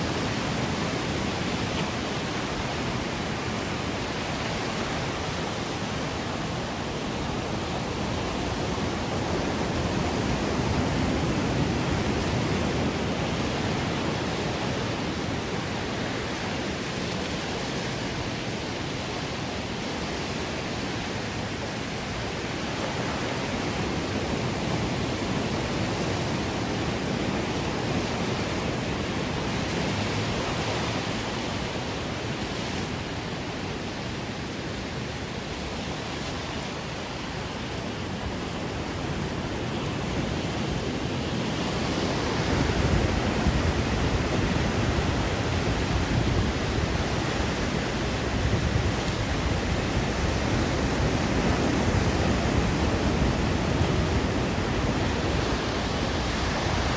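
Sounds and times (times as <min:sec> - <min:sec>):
ocean waves washing on shore: 0:00.0 - 0:56.9.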